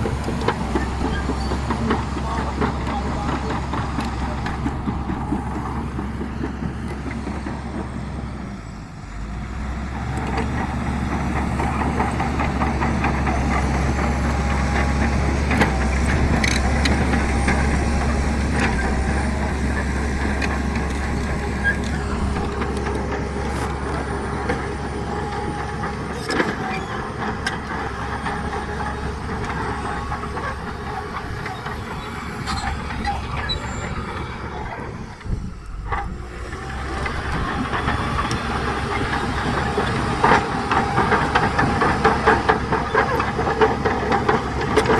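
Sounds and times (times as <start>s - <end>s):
heavy diesel machinery running: 0.0s - 44.9s.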